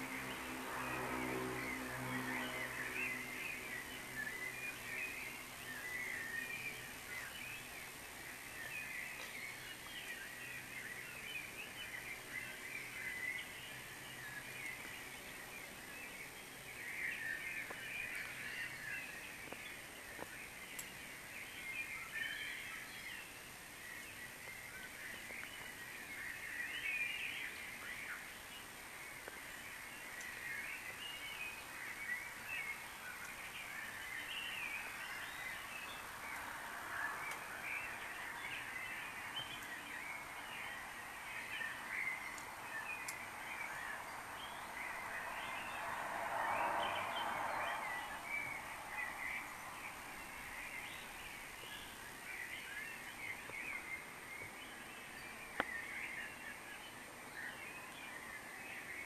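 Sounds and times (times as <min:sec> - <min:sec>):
birds chirping and warbling: 0:00.0 - 0:59.0
lower bird song: 0:00.0 - 0:59.0.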